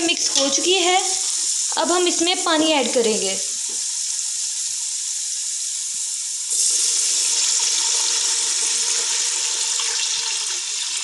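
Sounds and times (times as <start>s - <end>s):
water pouring into pot: 0.1s - 11.0s.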